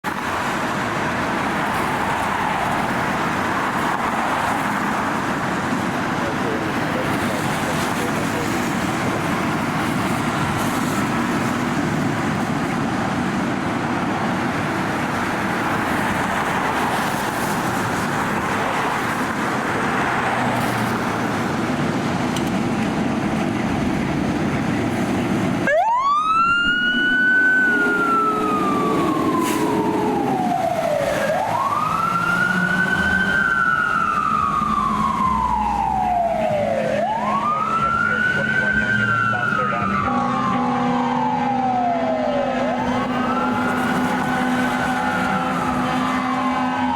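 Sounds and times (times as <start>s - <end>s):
fire engine siren wailing: 0.0s - 46.9s
steady road noise: 0.0s - 46.9s
truck engine: 0.0s - 46.9s.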